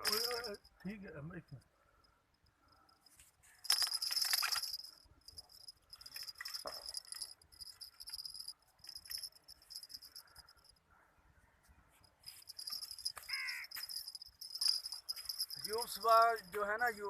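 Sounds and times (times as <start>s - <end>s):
insects chirring: 0.0s - 10.8s, 12.4s - 17.0s.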